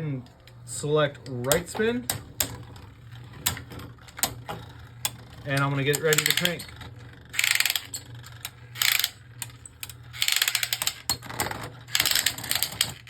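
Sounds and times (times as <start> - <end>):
plastic launcher ratcheting clicks: 1.3 - 2.6, 3.4 - 13.0.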